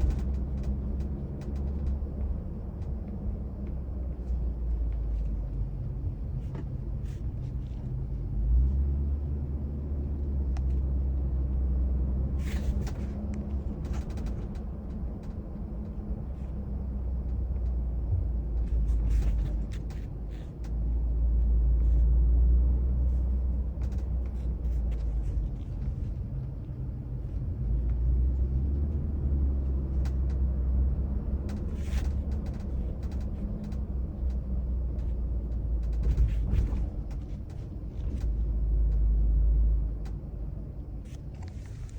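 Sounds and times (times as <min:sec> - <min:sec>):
road rumble inside moving car: 0:00.0 - 0:41.9.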